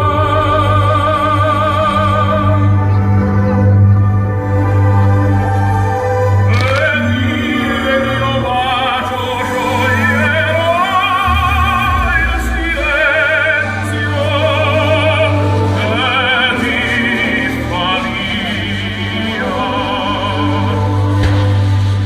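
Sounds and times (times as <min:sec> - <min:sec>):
operatic singing with vibrato: 0:00.0 - 0:22.0
orchestral accompaniment: 0:00.0 - 0:22.0.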